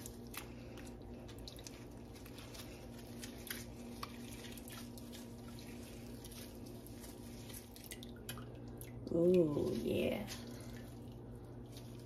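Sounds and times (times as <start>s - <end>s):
steady low hum: 0.0s - 12.0s
whey dripping and splashing: 0.0s - 12.0s.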